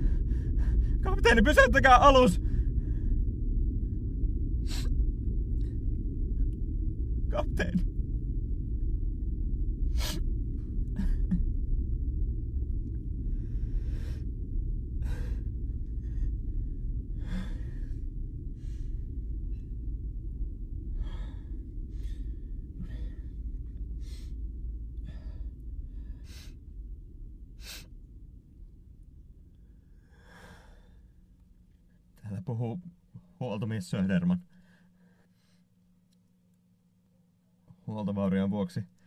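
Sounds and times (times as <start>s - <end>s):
low rumble: 0.0s - 32.2s.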